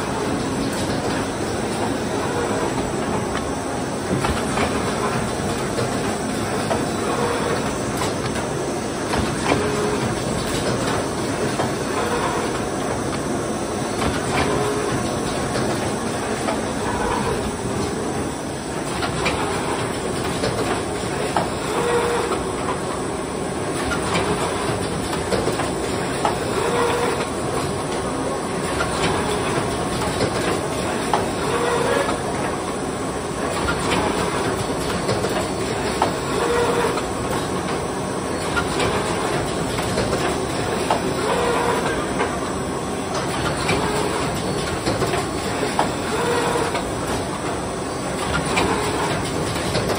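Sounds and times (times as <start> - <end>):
machine running: 0.0 - 49.9
mechanical clicks and clacks: 0.1 - 8.5, 9.1 - 13.3, 13.9 - 18.0, 18.7 - 22.8, 23.7 - 32.8, 33.4 - 42.5, 43.1 - 49.9.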